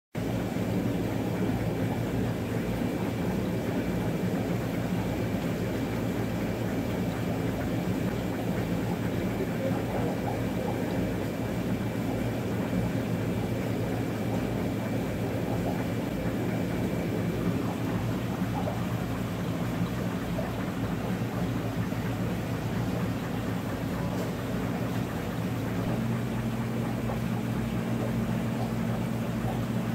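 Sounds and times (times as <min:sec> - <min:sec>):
low mechanical hum: 0:00.2 - 0:29.9.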